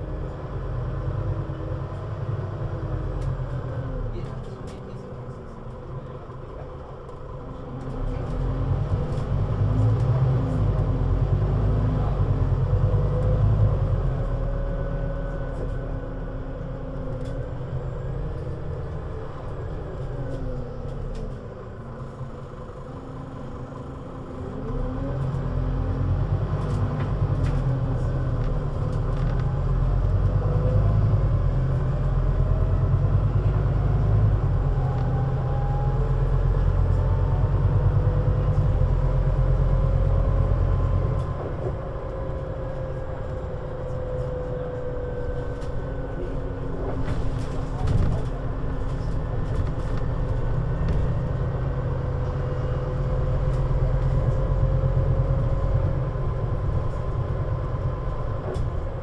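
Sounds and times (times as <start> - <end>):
bus diesel engine under load: 0.0 - 59.0.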